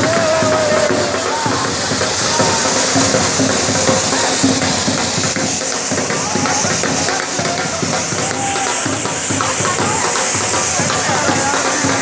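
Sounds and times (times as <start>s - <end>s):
bhangra music: 0.0s - 12.0s
dhol drum beat: 0.0s - 12.0s.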